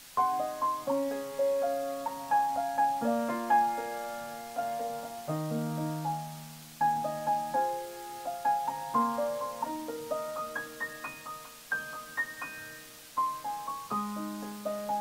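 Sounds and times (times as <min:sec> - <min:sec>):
solo piano playing: 0:00.0 - 0:15.0.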